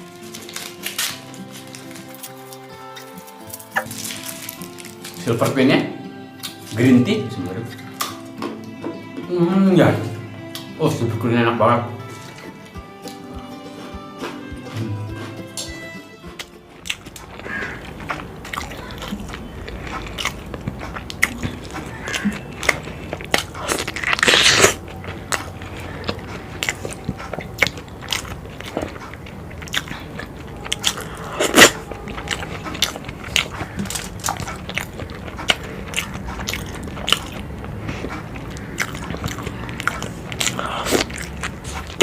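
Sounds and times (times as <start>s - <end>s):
person chewing crunchy food: 0.0s - 5.6s, 6.3s - 6.8s, 7.7s - 8.8s, 12.0s - 42.0s.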